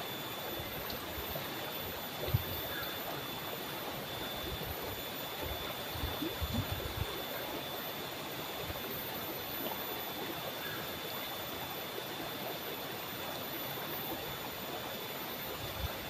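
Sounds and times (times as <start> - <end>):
stream water rushing over rocks: 0.0 - 16.0.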